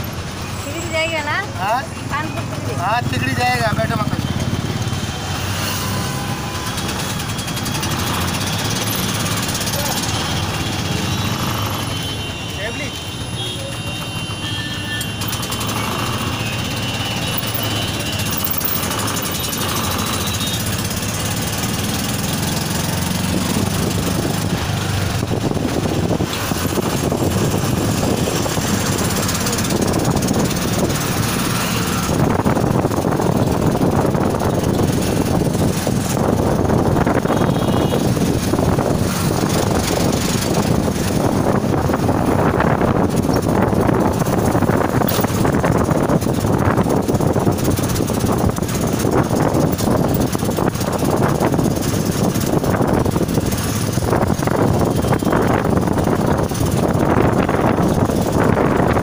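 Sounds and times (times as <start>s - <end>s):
auto-rickshaw engine running: 0.0s - 59.0s
road and wind noise: 0.0s - 59.0s.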